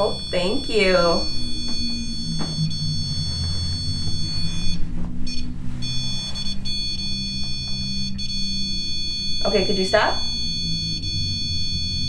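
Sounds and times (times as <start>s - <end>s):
high-pitched electronic alarm tone: 0.0s - 12.0s.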